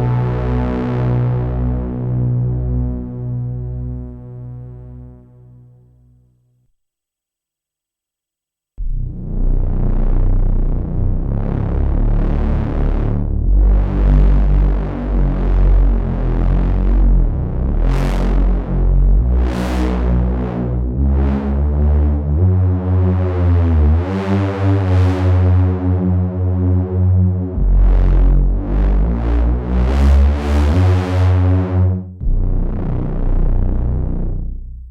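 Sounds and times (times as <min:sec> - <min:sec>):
synthesizer bass notes and chords: 0:00.0 - 0:06.2, 0:08.8 - 0:34.9.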